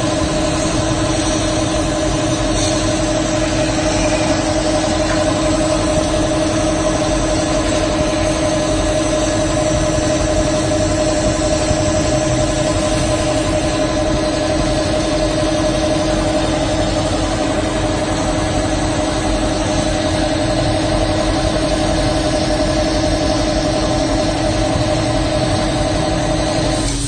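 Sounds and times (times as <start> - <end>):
laser cutter humming: 0.0 - 27.0.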